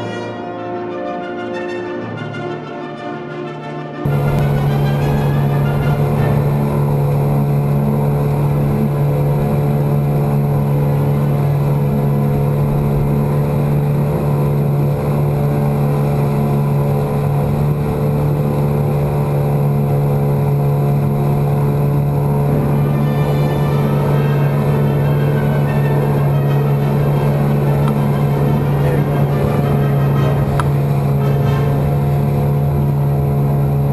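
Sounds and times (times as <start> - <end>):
outboard motor droning: 4.1 - 33.9.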